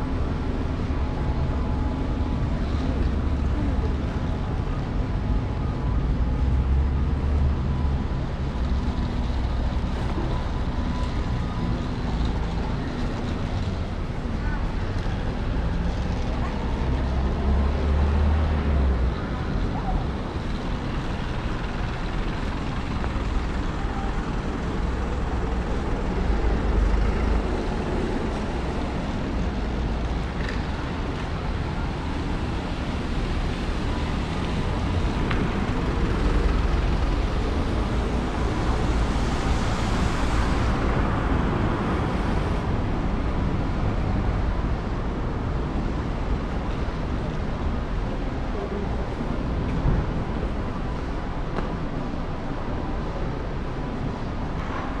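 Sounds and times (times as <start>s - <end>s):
traffic noise with low rumble: 0.0s - 55.0s.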